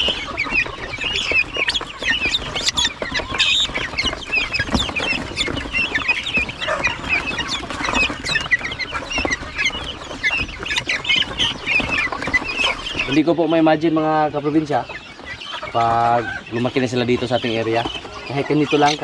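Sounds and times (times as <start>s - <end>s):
young birds chirping: 0.0s - 19.0s.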